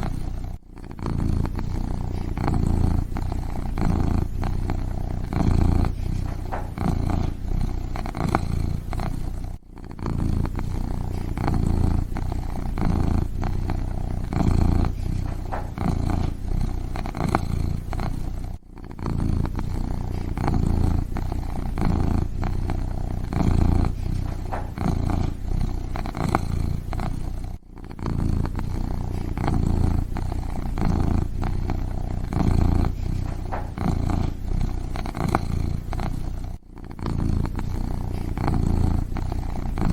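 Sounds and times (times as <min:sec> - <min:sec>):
kitten purring: 0:00.0 - 0:39.9.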